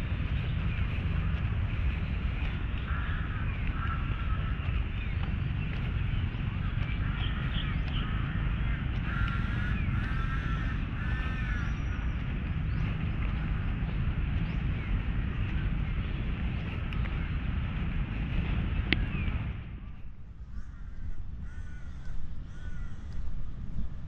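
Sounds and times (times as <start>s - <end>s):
harsh bird calls: 0.0s - 19.6s
low background rumble: 0.0s - 24.0s.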